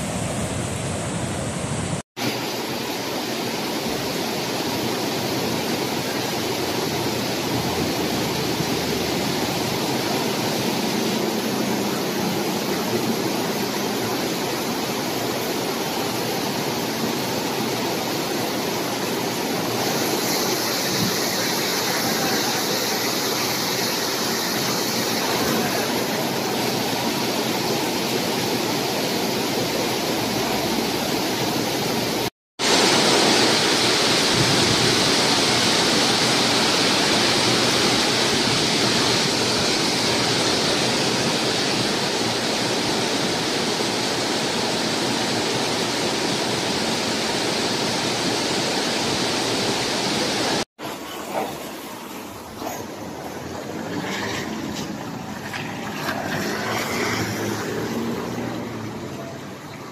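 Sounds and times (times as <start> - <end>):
heavy rain on pavement: 1.9 - 59.9.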